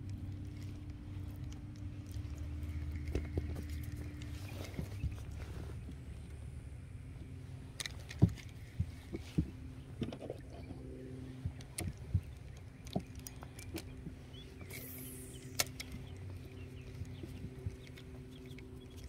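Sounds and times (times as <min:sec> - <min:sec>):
fishing gear knocking and clicking: 0:00.0 - 0:05.2, 0:07.7 - 0:10.7, 0:11.3 - 0:19.0
steady low hum: 0:00.0 - 0:19.0.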